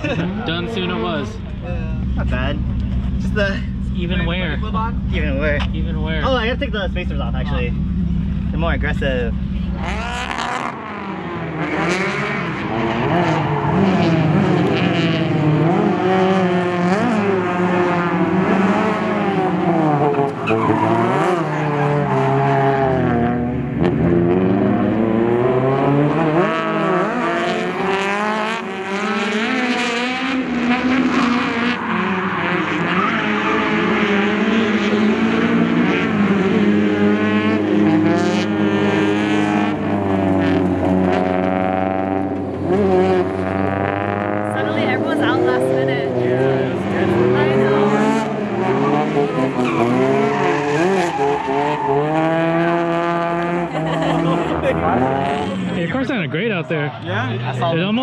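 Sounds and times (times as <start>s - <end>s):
car engines revving: 0.0s - 58.0s
tyres skidding and squealing: 0.0s - 58.0s.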